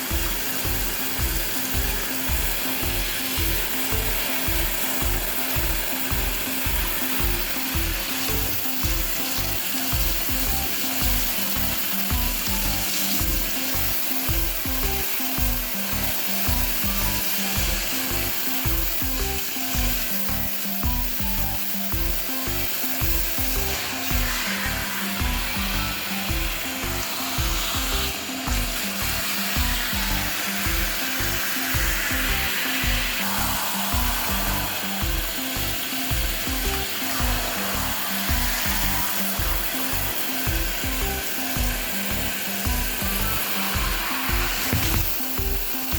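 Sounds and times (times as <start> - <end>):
background music with steady beat: 0.0 - 45.9
constant hissing noise: 0.0 - 45.9.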